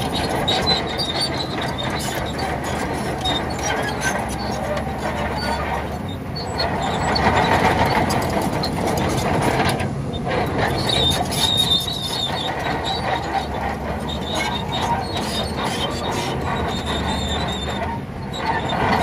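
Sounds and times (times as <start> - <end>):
high track squeal: 0.0 - 9.5, 10.1 - 19.0
bulldozer engine running: 0.0 - 19.0
steel tracks clattering: 0.0 - 19.0.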